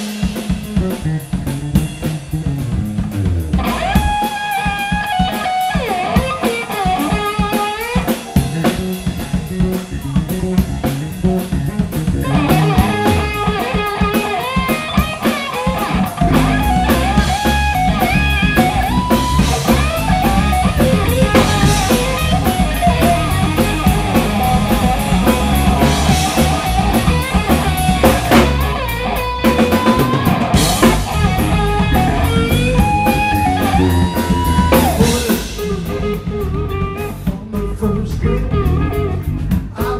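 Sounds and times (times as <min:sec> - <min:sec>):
bass guitar: 0:00.0 - 0:39.9
drums: 0:00.0 - 0:39.9
slide electric guitar: 0:00.7 - 0:39.9.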